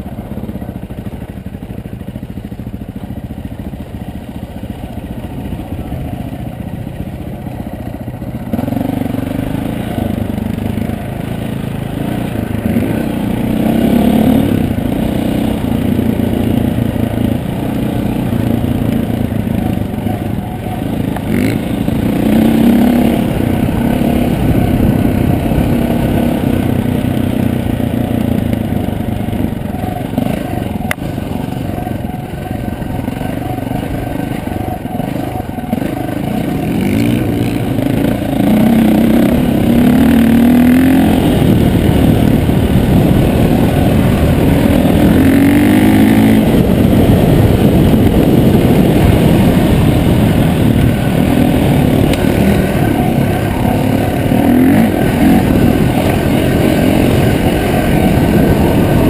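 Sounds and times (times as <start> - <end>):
dirt bike engine revving: 7.4 - 59.0.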